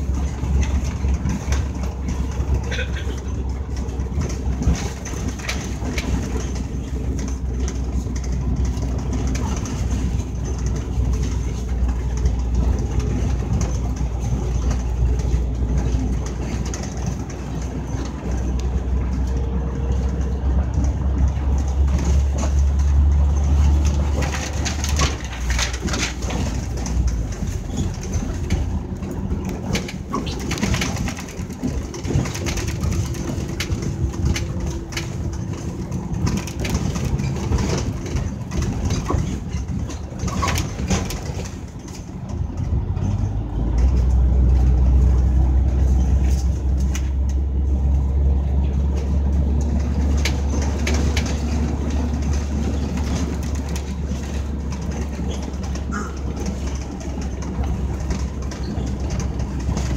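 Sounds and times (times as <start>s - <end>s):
bus diesel engine droning: 0.0s - 59.9s
rattles: 0.0s - 59.9s.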